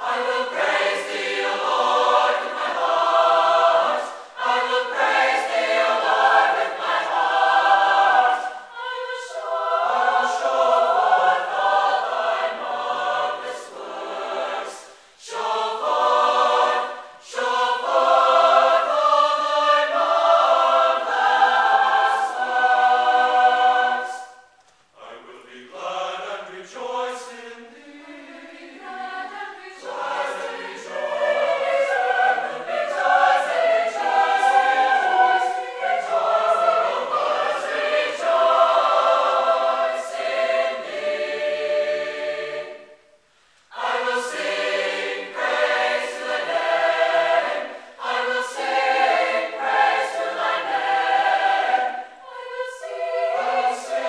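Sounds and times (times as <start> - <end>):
mixed choir singing a hymn: 0.0 - 54.0.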